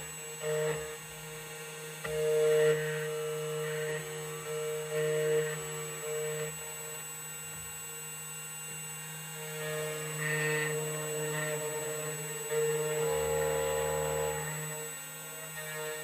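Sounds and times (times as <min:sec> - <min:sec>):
key cutting machine motor hum: 0:00.0 - 0:16.0.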